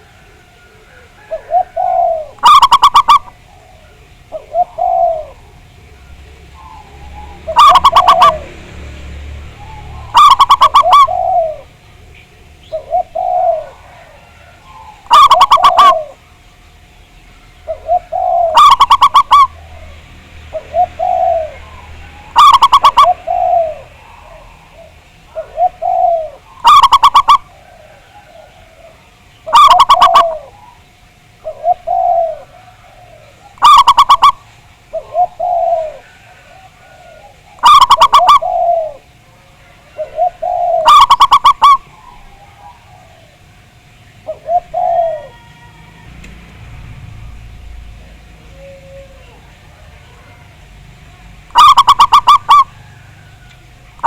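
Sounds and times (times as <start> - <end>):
soft coos from other doves: 0.0 - 8.7, 9.6 - 16.2, 17.6 - 50.6, 51.5 - 54.0
doves cooing loudly: 0.0 - 54.0.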